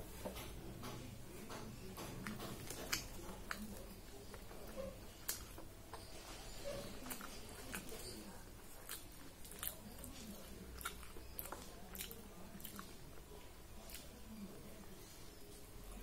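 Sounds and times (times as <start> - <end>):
person chewing soft food: 0.0 - 16.0.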